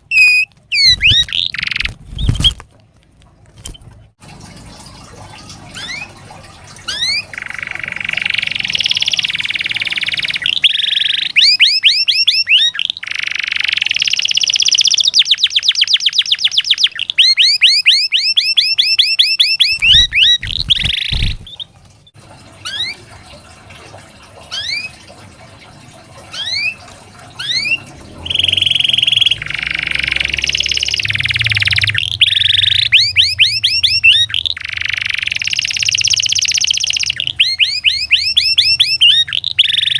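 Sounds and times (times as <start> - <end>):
canary singing: 0.0 - 2.6, 5.7 - 6.2, 6.8 - 21.7, 24.5 - 25.0, 26.3 - 39.9.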